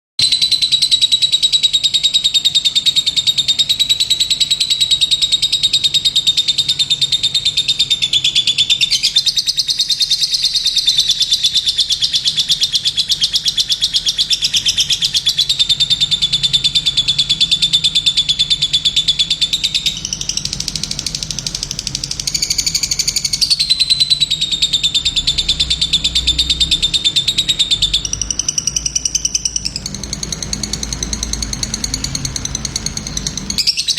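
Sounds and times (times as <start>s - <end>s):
bird singing rapid trill: 0.2s - 33.9s.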